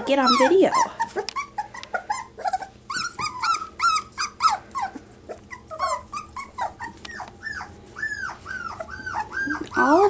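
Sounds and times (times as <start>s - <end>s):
puppies crying: 0.0s - 10.0s.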